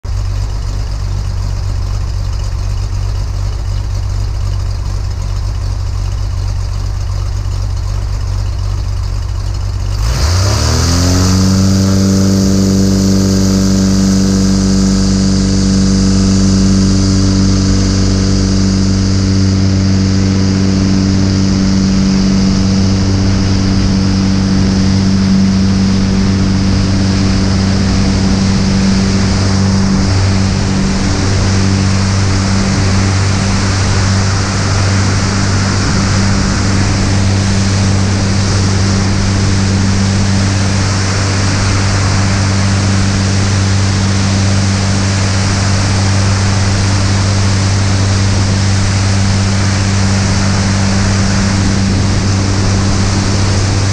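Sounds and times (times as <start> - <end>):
aircraft engine and propeller: 0.0 - 53.9
wind rush: 10.0 - 53.9.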